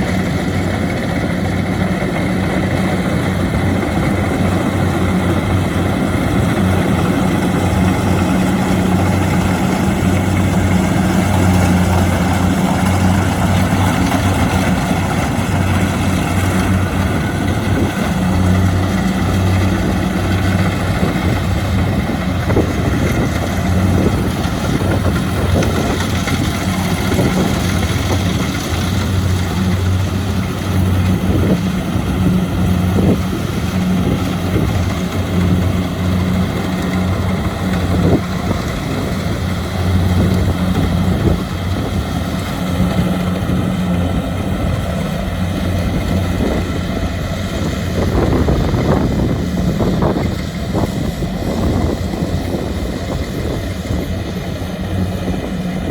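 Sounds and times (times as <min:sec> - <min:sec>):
combine threshing noise: 0:00.0 - 0:55.9
diesel engine hum: 0:00.0 - 0:55.9.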